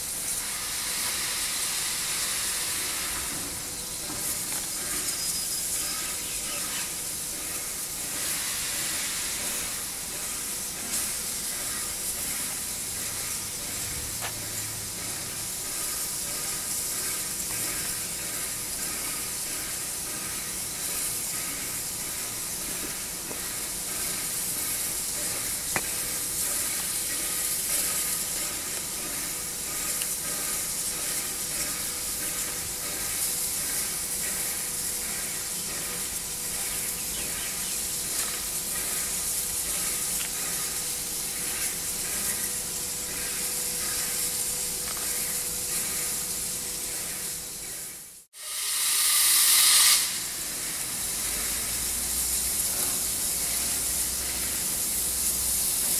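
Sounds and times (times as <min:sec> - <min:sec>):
steam locomotive hissing: 0:00.0 - 0:55.9.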